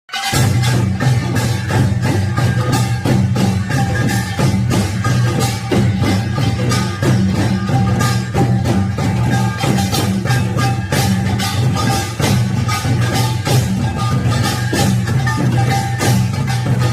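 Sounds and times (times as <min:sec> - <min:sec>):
gong and drums percussion: 0:00.1 - 0:16.9.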